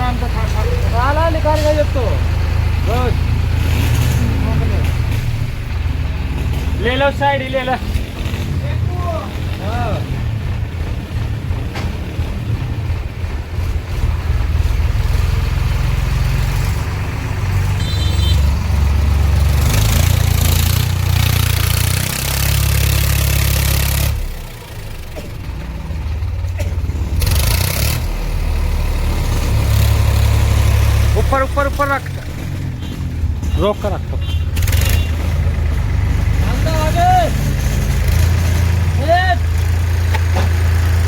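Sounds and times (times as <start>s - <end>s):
engine running and revving: 0.0s - 41.0s.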